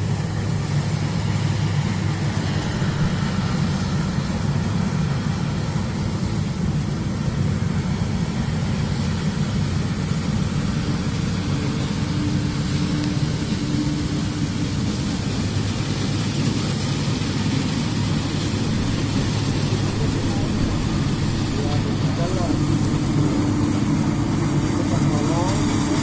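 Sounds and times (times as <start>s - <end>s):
combine harvester engine drone: 0.0s - 26.0s
steady higher hum: 0.0s - 26.0s.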